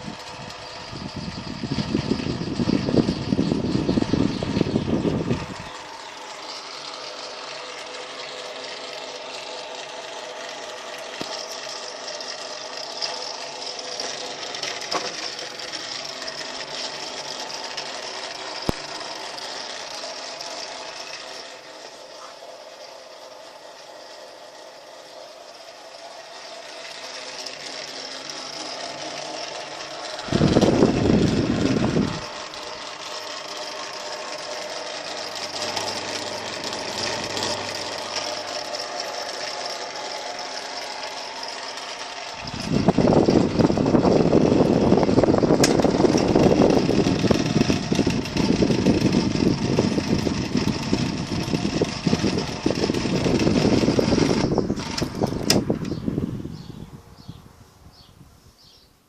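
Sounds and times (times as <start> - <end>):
rough rattling rumble: 0.0 - 22.1, 23.1 - 57.4
electric fan motor hum: 0.0 - 59.0.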